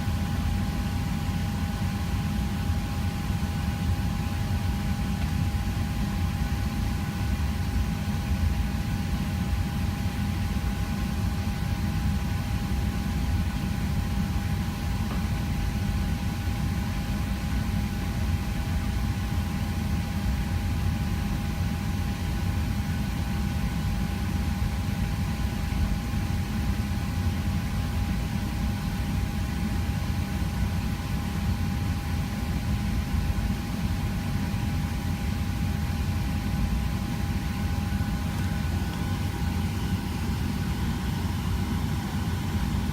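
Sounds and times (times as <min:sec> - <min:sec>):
constant high whine: 0:00.0 - 0:42.9.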